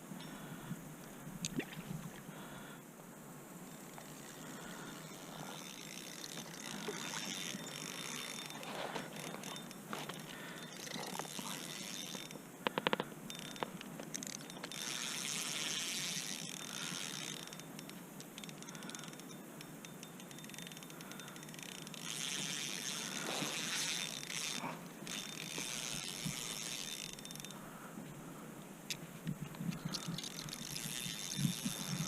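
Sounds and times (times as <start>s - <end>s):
fishing reel clicking: 3.6s - 27.8s, 29.7s - 32.0s.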